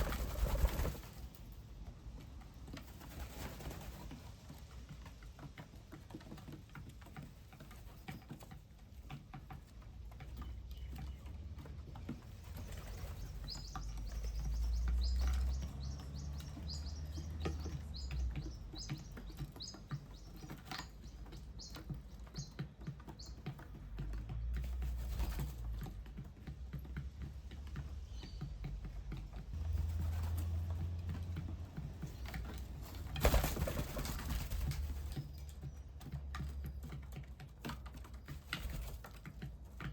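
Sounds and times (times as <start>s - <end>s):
wing flapping: 0.0s - 8.4s, 9.0s - 39.9s.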